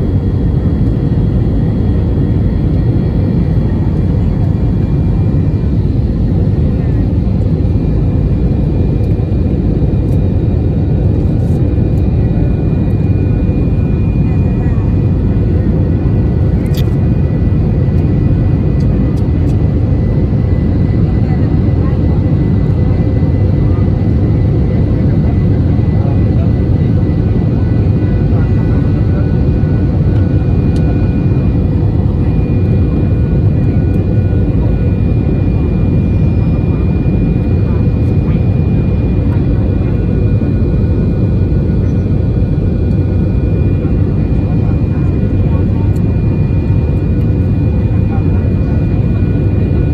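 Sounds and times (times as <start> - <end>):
jet engine whine: 0.0 - 49.9
jet engines rumbling: 0.0 - 49.9.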